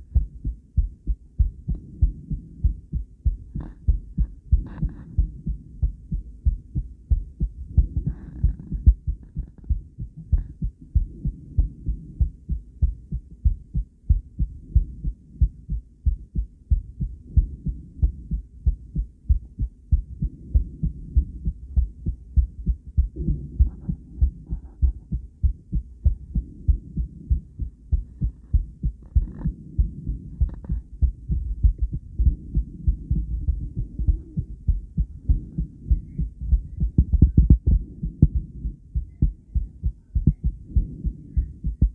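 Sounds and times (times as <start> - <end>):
heartbeat: 0.0 - 41.9.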